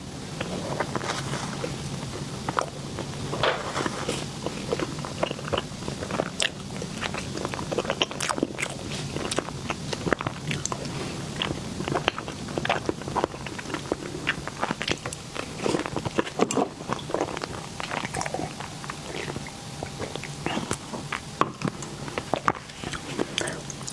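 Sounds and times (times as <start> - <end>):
wet chewing mouth sounds: 0.4 - 23.9.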